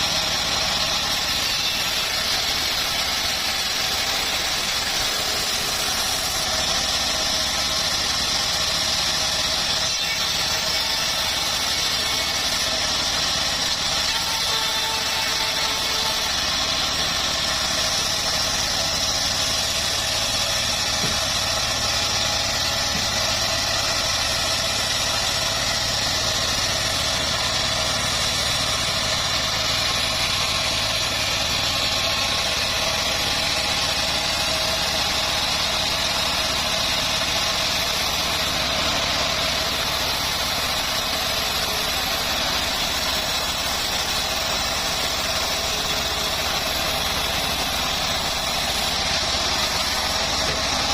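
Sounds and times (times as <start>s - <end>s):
bandsaw mill droning: 0.0s - 50.9s.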